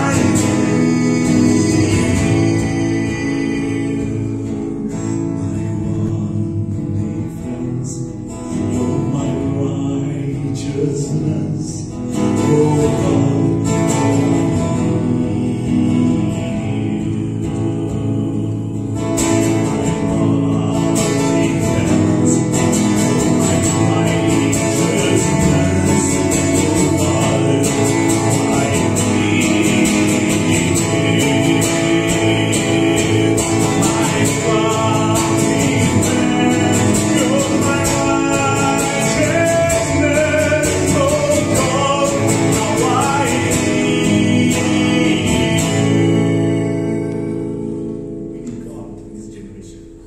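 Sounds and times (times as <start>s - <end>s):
man singing: 0.0s - 49.9s
acoustic guitar strumming: 0.0s - 50.0s.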